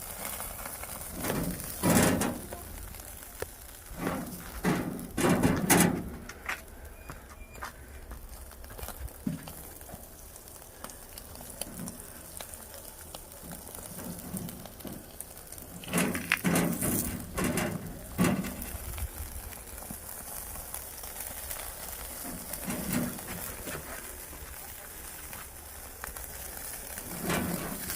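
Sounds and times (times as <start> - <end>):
fish sizzling: 0.0 - 27.9
wood fire crackling: 0.0 - 27.9.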